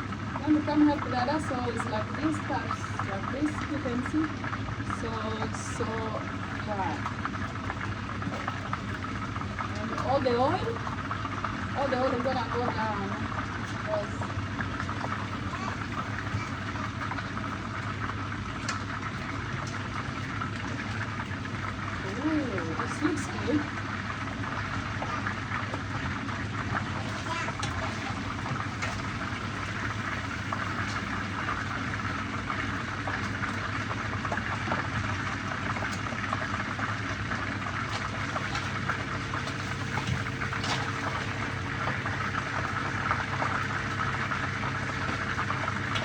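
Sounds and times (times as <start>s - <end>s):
fish sizzling in hot oil: 0.0s - 46.0s
oil popping and crackling: 0.0s - 46.0s.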